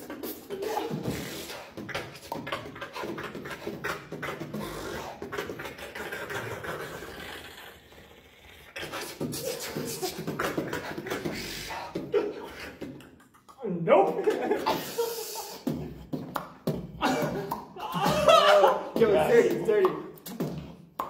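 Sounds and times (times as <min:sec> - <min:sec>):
vocal beatboxing: 0:00.0 - 0:21.0.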